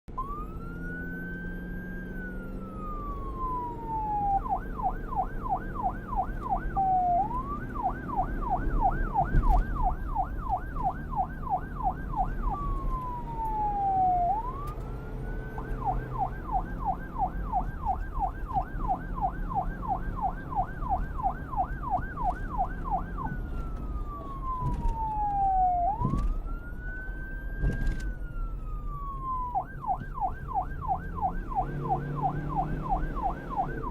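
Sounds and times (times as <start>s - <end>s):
low vehicle rumble: 0.1s - 33.9s
police siren wailing and yelping: 0.1s - 33.9s.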